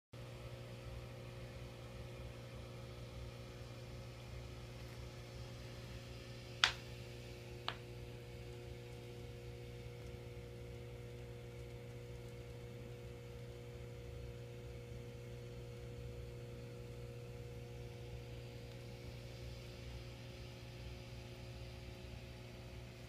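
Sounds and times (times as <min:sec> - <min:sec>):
aquarium pumps humming: 0:00.2 - 0:23.0.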